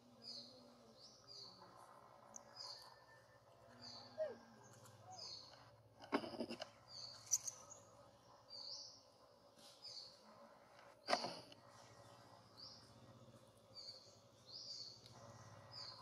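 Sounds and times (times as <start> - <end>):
bird chirping: 0.0 - 5.7, 6.6 - 10.2, 11.1 - 16.0.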